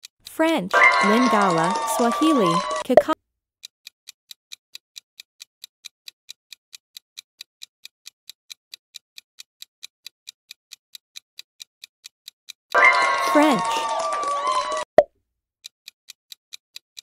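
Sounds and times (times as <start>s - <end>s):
clock ticks: 0.0s - 3.2s, 3.8s - 14.9s, 15.6s - 17.0s.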